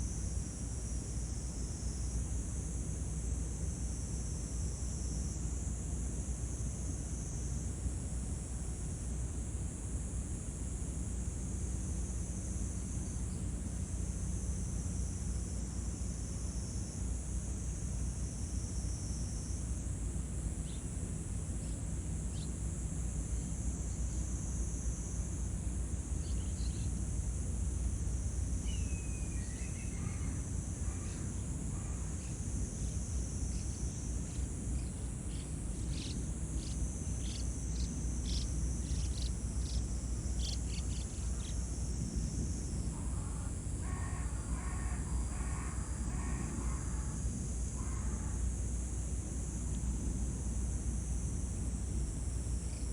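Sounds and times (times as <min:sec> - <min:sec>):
high insect drone: 0:00.0 - 0:52.9.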